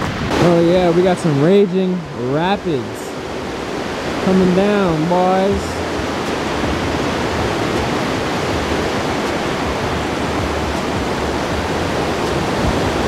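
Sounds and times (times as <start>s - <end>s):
river rapids roaring: 0.0s - 13.0s.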